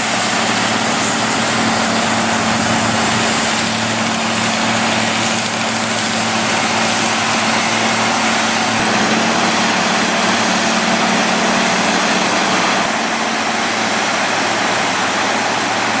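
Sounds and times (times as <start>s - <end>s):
cutting drum grinding: 0.0s - 12.9s
diesel engine hum: 0.0s - 16.0s.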